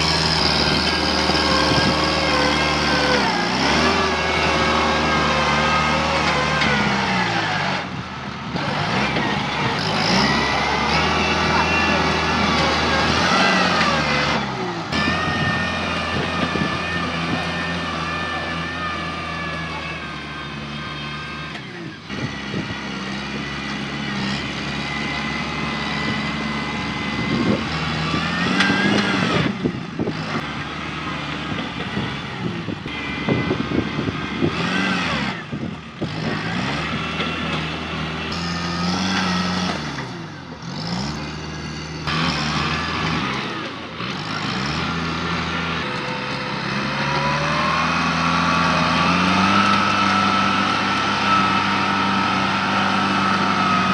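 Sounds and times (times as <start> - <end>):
tractor engine revving: 0.0 - 53.9.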